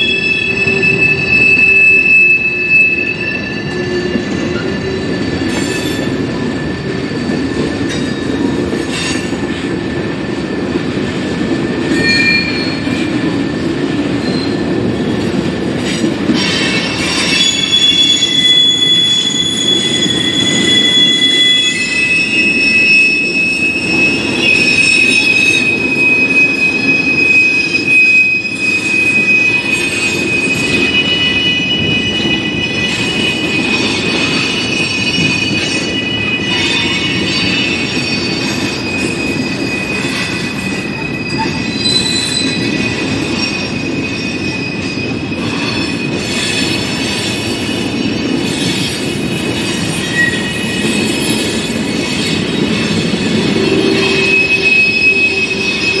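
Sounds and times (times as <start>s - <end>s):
metallic wheel squeals: 0.0s - 9.3s, 11.9s - 13.1s, 14.2s - 14.7s, 15.9s - 56.0s
train wheels rumbling on rail: 0.0s - 56.0s.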